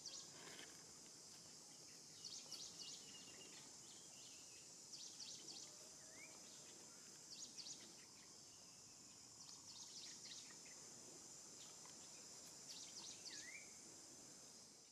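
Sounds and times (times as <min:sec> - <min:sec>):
high insect drone: 0:00.0 - 0:14.9.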